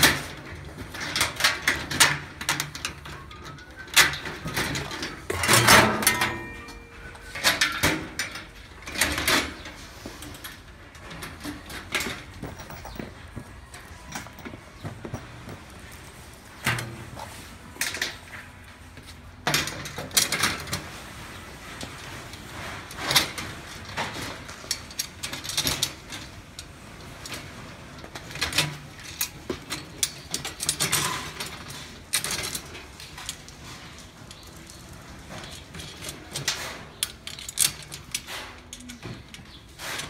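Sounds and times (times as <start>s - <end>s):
metal parts and tools clinking: 0.0s - 21.0s, 21.7s - 40.0s.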